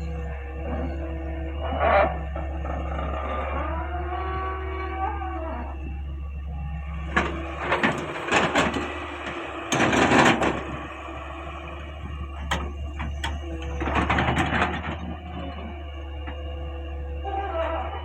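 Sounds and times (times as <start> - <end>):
excavator humming: 0.0 - 18.0.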